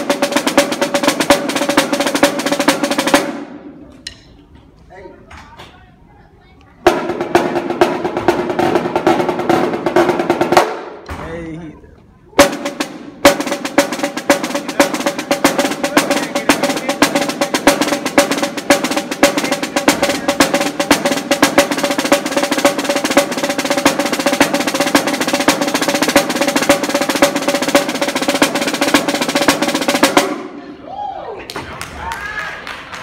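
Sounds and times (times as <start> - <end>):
marching snare drum rolls: 0.0 - 3.8, 6.8 - 11.6, 12.4 - 30.6.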